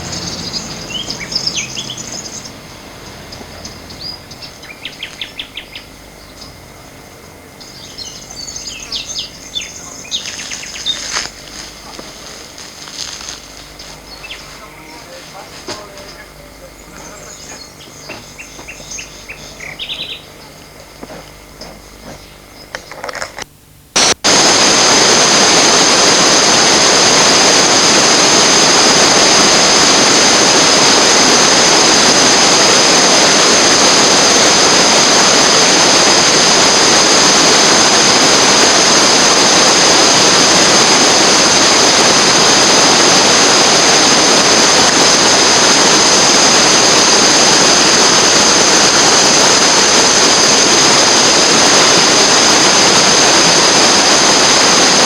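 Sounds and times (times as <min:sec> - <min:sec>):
rushing whitewater roar: 0:00.0 - 0:17.9, 0:24.0 - 0:55.0.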